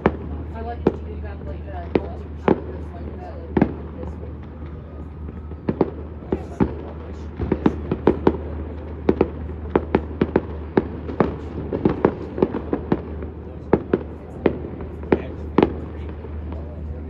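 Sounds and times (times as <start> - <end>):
fireworks bangs: 0.0 - 17.0
steady low hum: 0.0 - 17.0.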